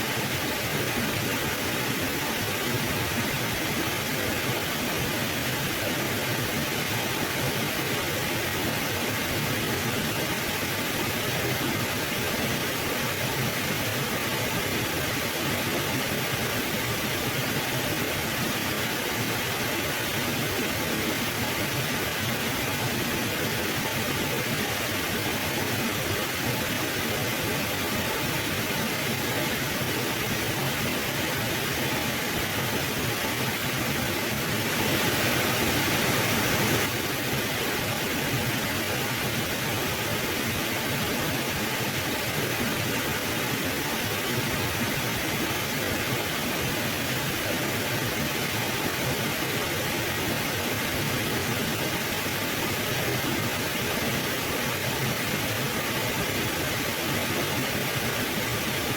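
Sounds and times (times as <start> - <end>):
river rushing: 10.4 - 58.9.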